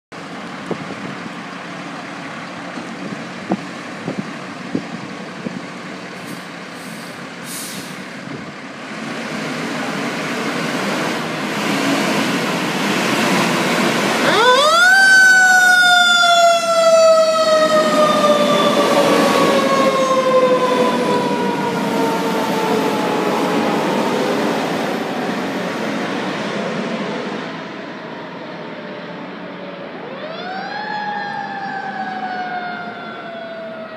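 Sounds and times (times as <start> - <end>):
fire engine diesel engine: 0.1 - 33.9.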